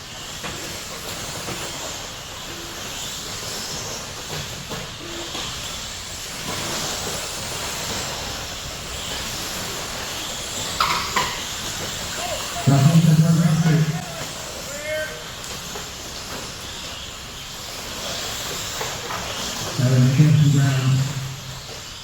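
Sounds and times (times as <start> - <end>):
electric motors and tyres hissing: 0.0 - 22.0.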